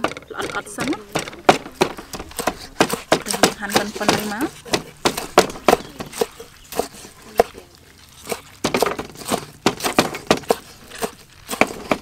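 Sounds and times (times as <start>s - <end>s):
cleaver chopping on wooden board: 0.0s - 7.6s, 8.3s - 12.0s.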